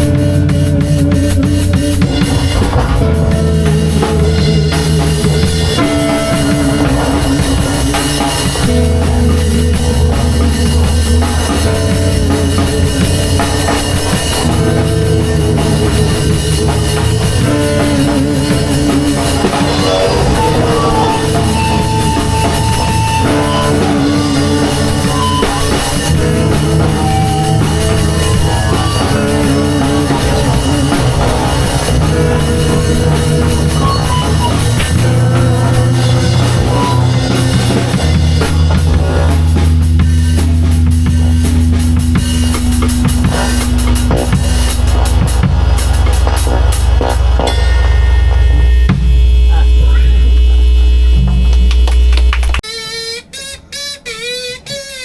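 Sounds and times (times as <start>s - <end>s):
drum kit playing: 0.0s - 55.0s
guitar and bass notes: 0.0s - 55.0s.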